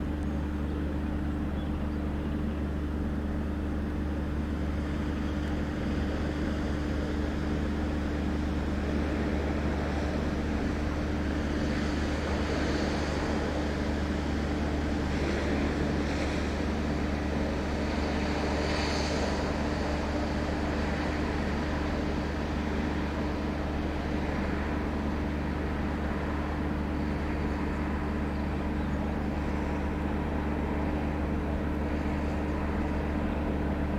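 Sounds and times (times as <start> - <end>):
diesel locomotive engine droning: 0.0 - 33.9.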